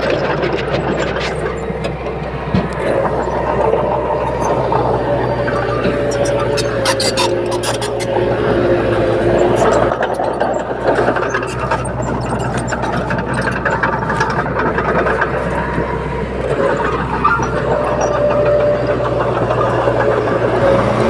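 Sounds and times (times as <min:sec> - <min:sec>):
heavy diesel engine running: 0:00.0 - 0:21.0
rapid metallic clicks and clanks: 0:00.0 - 0:21.0.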